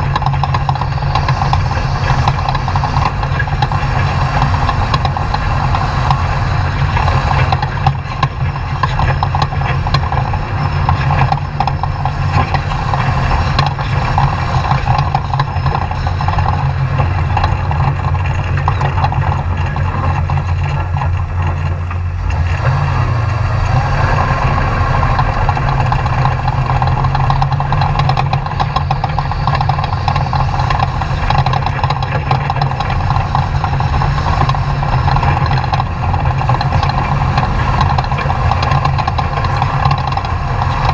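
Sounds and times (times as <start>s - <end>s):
truck engine running loudly: 0.0s - 40.9s.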